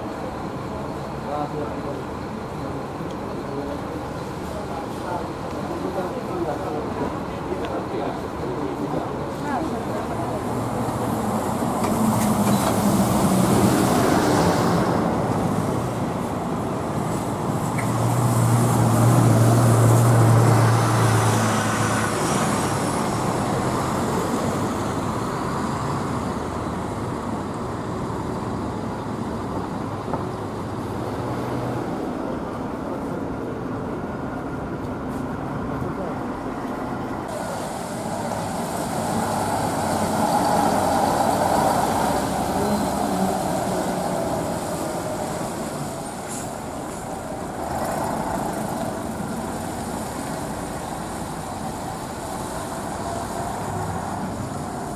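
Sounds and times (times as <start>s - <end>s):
diesel bus engines: 0.0s - 54.9s
traffic noise: 0.0s - 54.9s.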